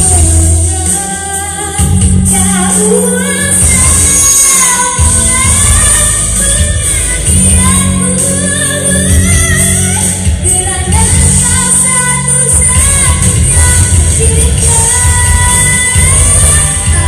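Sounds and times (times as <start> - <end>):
amplified pop backing track: 0.0 - 17.0
boy singing into a microphone: 0.0 - 17.0.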